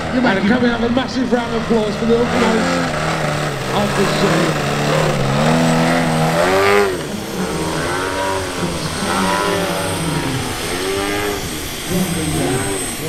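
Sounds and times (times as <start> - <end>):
model plane engine and propeller: 0.0 - 13.0.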